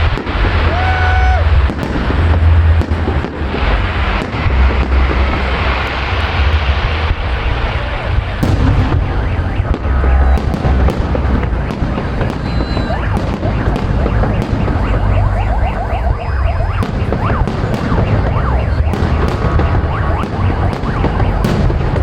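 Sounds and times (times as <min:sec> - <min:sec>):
firework whistle: 0:00.0 - 0:22.0
fireworks booming: 0:00.0 - 0:22.0
fireworks cracking: 0:00.0 - 0:22.0.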